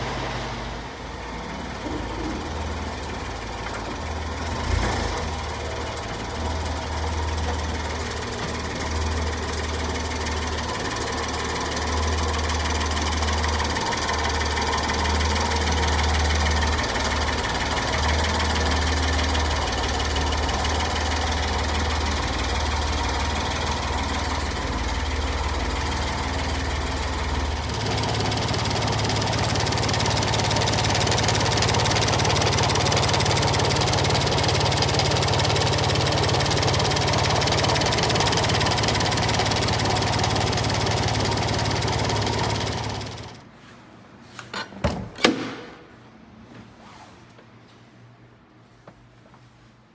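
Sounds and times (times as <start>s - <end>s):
small engine idling: 0.0s - 43.4s.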